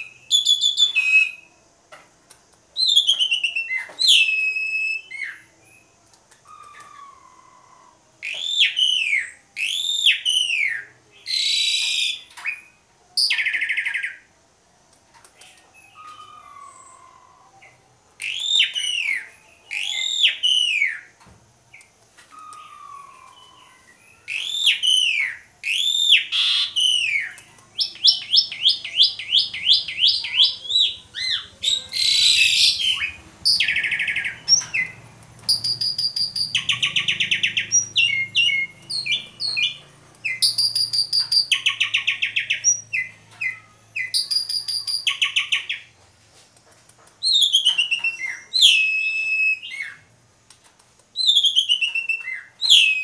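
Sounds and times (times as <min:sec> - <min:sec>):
starling singing: 0:02.8 - 0:14.3, 0:15.4 - 0:21.1, 0:21.7 - 0:45.9, 0:47.2 - 0:50.1, 0:51.2 - 0:53.0.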